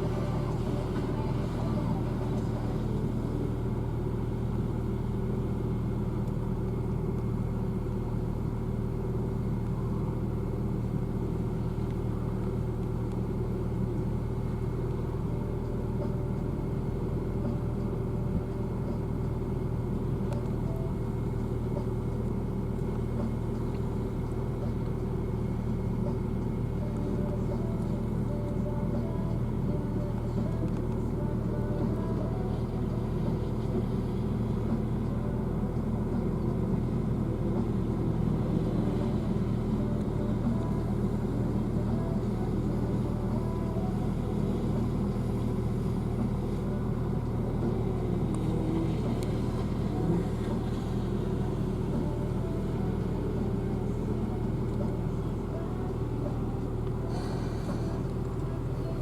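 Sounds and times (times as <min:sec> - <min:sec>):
vehicle engine running steadily: 0:00.0 - 0:59.0.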